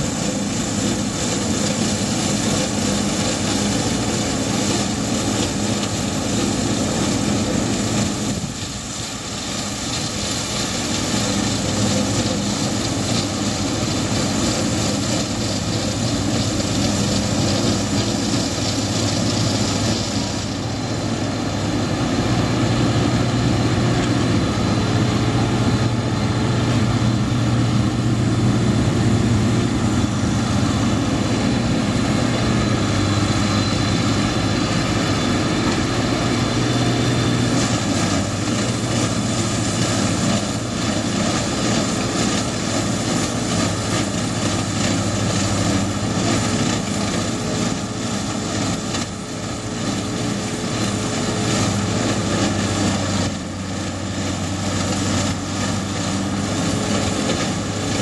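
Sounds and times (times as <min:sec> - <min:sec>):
diesel machinery drone: 0:00.0 - 0:58.0.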